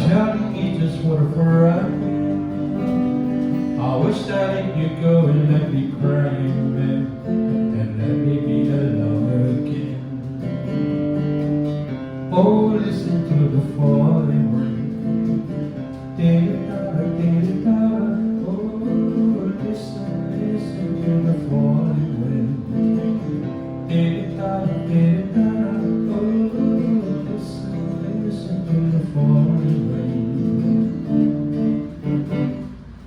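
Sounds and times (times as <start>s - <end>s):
acoustic guitar strumming chords: 0.0s - 33.0s.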